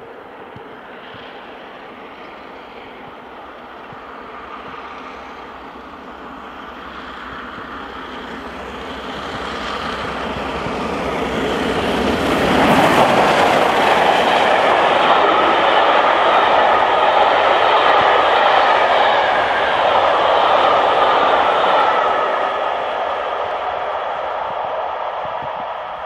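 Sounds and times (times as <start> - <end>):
steam locomotive rushing past: 0.0 - 26.0
train coaches rolling by: 0.0 - 26.0.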